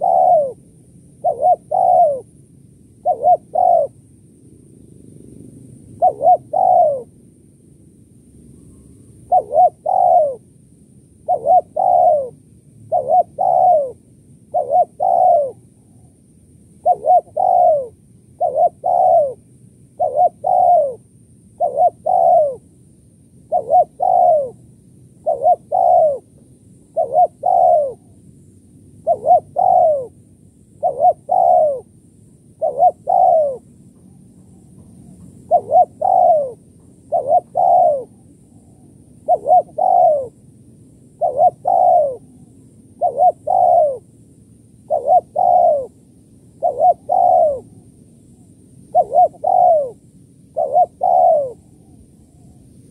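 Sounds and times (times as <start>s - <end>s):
dove cooing: 0.0s - 2.4s, 3.0s - 4.0s, 6.0s - 7.2s, 8.6s - 10.5s, 11.2s - 16.2s, 16.8s - 22.7s, 23.4s - 28.2s, 29.0s - 40.4s, 41.1s - 44.1s, 44.8s - 52.9s.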